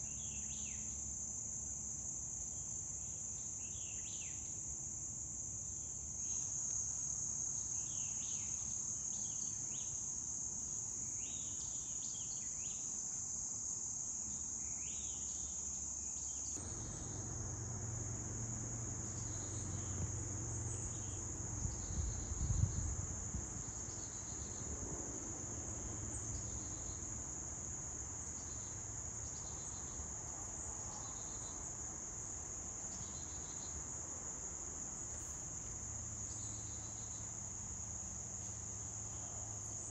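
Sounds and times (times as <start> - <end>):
chorus of crickets: 0.0 - 39.9
insect chirping calls: 0.0 - 39.9.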